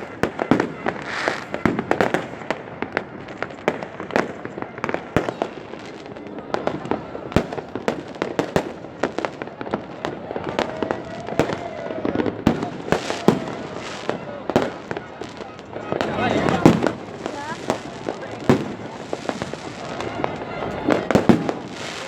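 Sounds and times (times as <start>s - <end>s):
fireworks bangs and pops: 0.0s - 22.0s
fireworks crackle: 0.0s - 22.0s.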